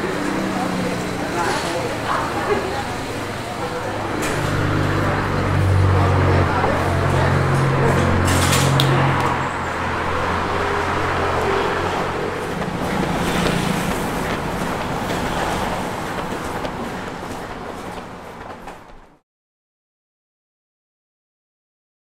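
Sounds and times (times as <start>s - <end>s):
steady traffic noise: 0.0s - 19.2s
vehicle engine humming: 0.0s - 19.2s.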